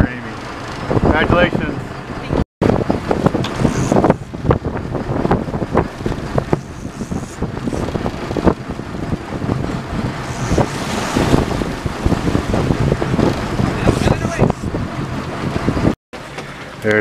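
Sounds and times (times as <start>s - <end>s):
wind buffeting microphone: 0.0s - 16.0s
boat engine rumble: 0.0s - 17.0s
sea: 0.0s - 17.0s
rushing noise: 0.4s - 15.1s.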